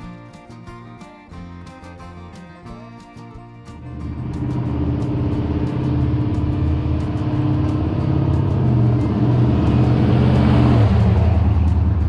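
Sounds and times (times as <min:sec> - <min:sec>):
pickup truck engine running: 0:00.0 - 0:12.0.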